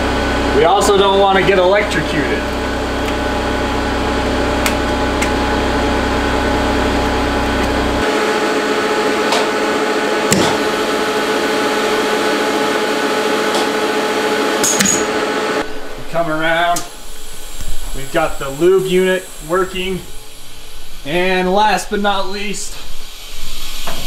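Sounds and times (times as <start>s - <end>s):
machine motors and fans humming: 0.0s - 23.2s.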